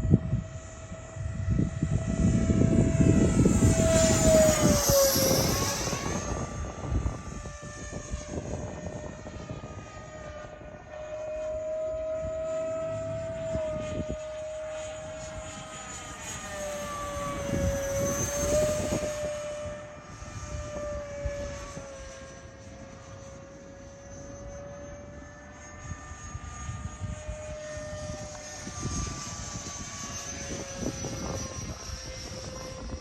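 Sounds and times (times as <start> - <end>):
electric ducted fan jet whining: 0.0 - 33.0
wind rumble on microphone: 0.0 - 33.0.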